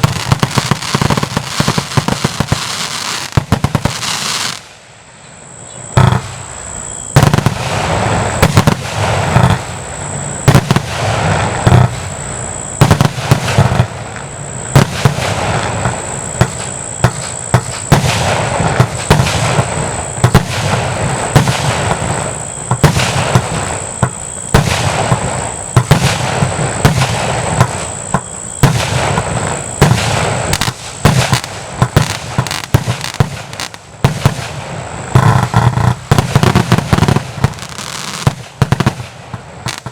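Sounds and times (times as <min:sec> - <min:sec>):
firework cake shots and bangs: 0:00.0 - 0:04.8, 0:07.1 - 0:09.8, 0:10.5 - 0:12.1, 0:12.8 - 0:14.0, 0:14.7 - 0:39.9.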